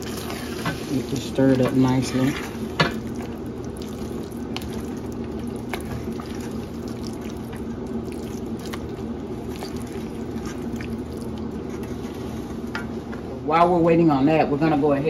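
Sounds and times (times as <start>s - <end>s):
sauce simmering in a pan: 0.0s - 12.6s.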